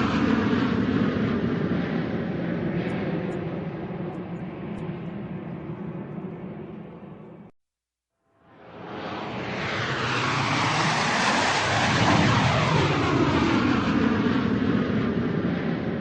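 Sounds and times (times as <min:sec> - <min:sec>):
airplane flying overhead: 0:00.0 - 0:07.5, 0:08.4 - 0:16.0.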